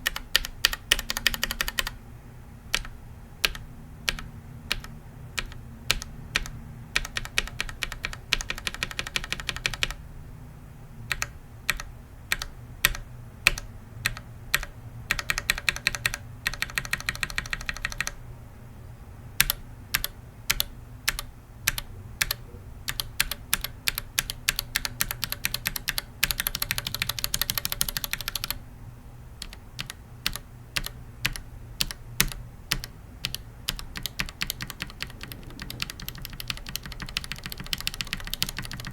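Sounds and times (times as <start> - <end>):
mechanical keyboard keys clacking: 0.0 - 2.0, 2.7 - 10.0, 11.1 - 18.2, 19.4 - 28.6, 29.4 - 38.9.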